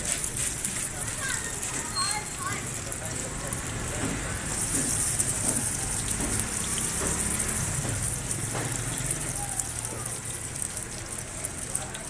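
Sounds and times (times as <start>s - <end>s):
patties sizzling on a griddle: 0.0s - 12.0s.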